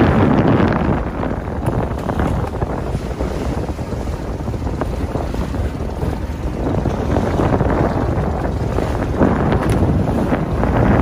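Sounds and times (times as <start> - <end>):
boat engine rumble: 0.0 - 11.0
sea washing along hull: 0.0 - 11.0
wind blowing across microphone: 0.0 - 11.0.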